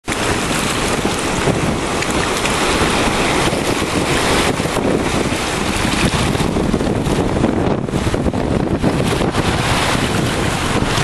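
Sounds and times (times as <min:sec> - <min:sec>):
waves washing over rock: 0:00.0 - 0:11.0
wind buffeting microphone: 0:00.0 - 0:11.0.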